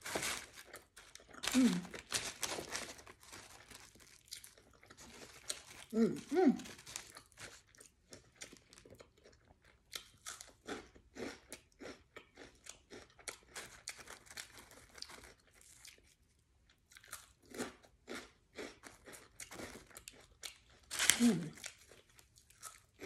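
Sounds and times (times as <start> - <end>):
crunchy snack chewing: 0.0 - 23.0.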